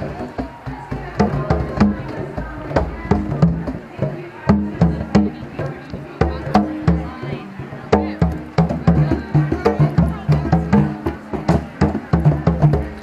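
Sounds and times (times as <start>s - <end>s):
hand drums struck: 0.0s - 13.0s.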